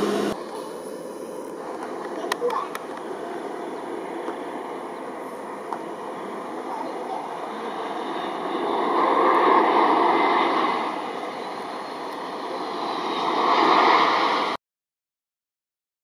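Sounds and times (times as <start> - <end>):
jet engines rushing: 0.0 - 14.6.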